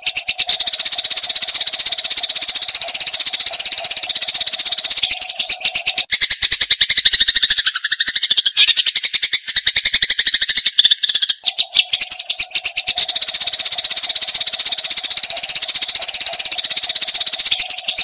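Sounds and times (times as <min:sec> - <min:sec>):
sparrow rapid chatter: 0:00.0 - 0:18.0.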